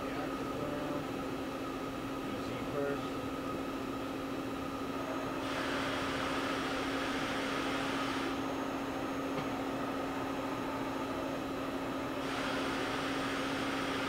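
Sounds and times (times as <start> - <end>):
machine steady hum: 0.0 - 14.0.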